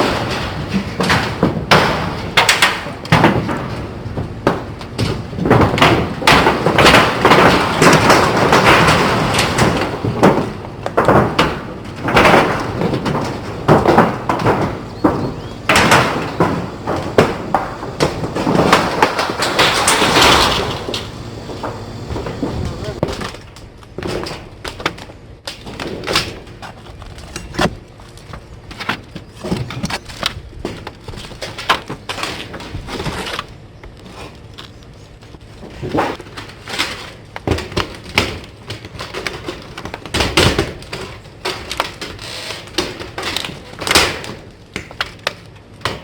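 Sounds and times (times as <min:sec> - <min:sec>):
tin roofing sheets banging: 0:00.0 - 0:46.0.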